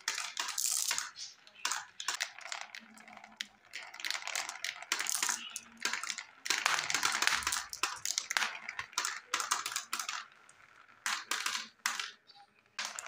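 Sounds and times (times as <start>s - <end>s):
plastic balls clattering down chute: 0.0s - 13.0s.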